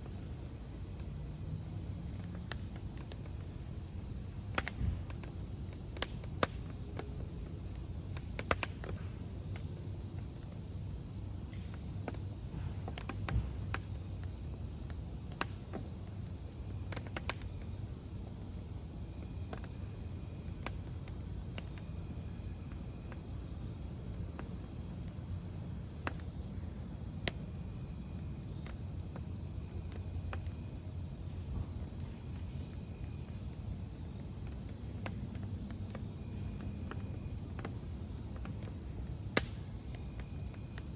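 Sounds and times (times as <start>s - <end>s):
burning logs popping: 0.0s - 40.9s
crackling campfire: 0.0s - 40.9s
crickets chirping: 0.0s - 40.9s.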